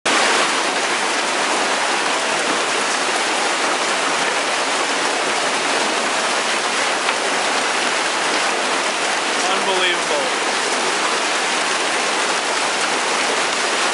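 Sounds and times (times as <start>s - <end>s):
heavy hail and rain pelting: 0.1s - 13.9s.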